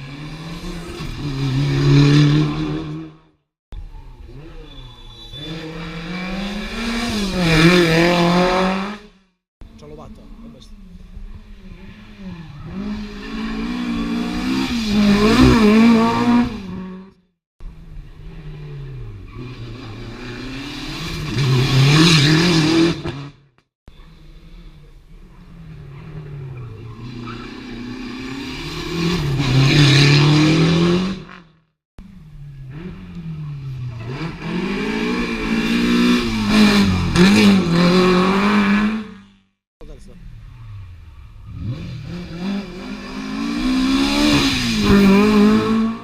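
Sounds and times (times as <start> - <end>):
rally cars passing at full throttle: 0.0 - 39.4, 40.2 - 46.0.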